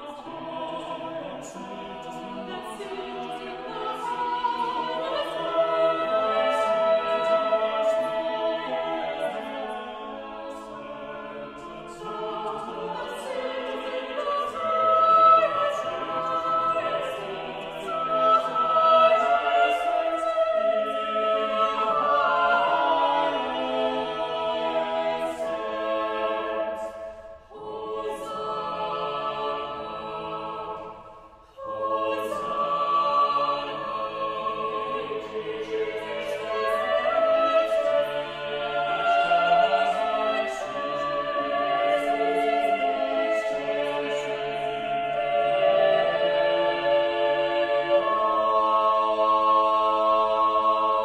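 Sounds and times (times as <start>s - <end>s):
choir singing a worship song: 0.0s - 51.0s.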